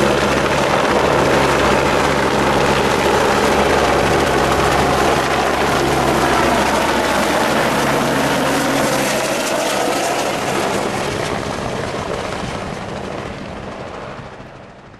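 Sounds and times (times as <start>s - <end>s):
helicopter engine and rotor: 0.0s - 14.9s.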